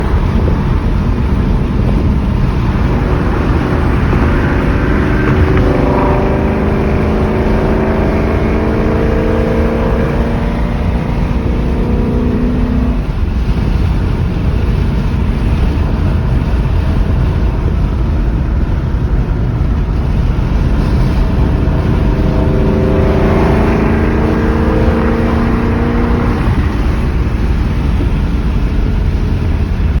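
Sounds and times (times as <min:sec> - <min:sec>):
car engine and exhaust revving: 0:00.0 - 0:30.0
low road rumble: 0:00.0 - 0:30.0.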